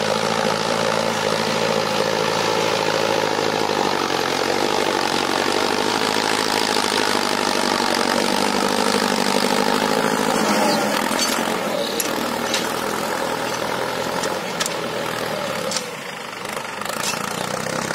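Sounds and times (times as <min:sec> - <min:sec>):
tractor diesel engine under load: 0:00.0 - 0:17.9.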